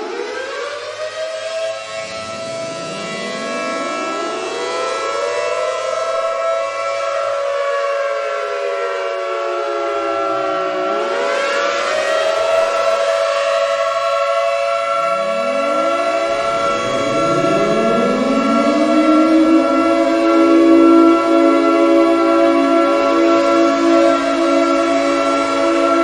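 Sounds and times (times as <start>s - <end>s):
outdoor warning sirens: 0.0s - 26.0s.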